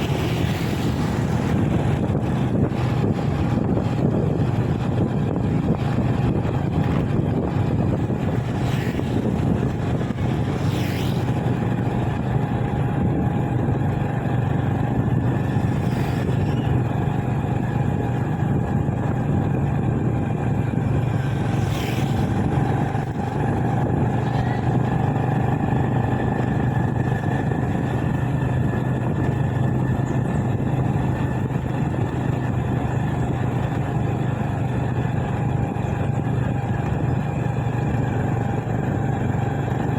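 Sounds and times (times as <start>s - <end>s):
motorbike engine cruising: 0.0s - 39.9s
road and wind noise: 0.0s - 39.9s.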